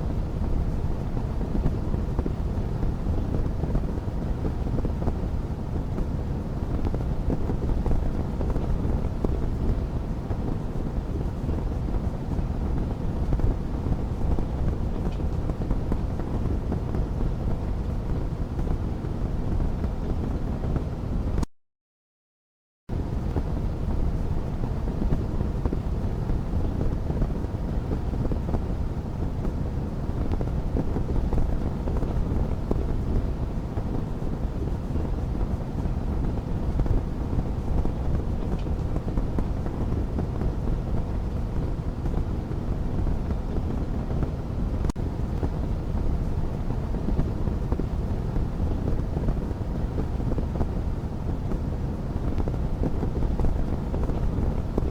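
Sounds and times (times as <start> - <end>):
fireplace fire crackling: 0.1 - 20.7, 23.0 - 54.9.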